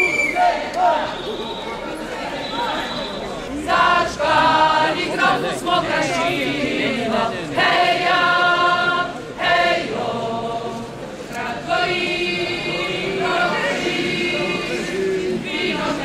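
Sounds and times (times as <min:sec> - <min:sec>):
crowd chanting in unison: 0:00.0 - 0:16.0.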